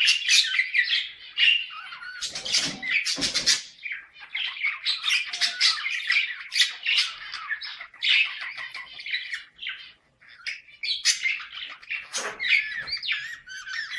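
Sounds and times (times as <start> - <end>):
budgerigars chattering: 0.0 - 13.9.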